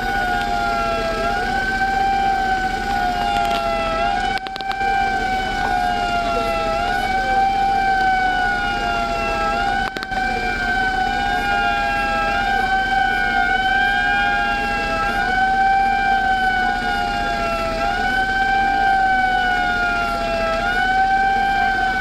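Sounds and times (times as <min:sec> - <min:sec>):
emergency vehicle siren wailing: 0:00.0 - 0:22.0.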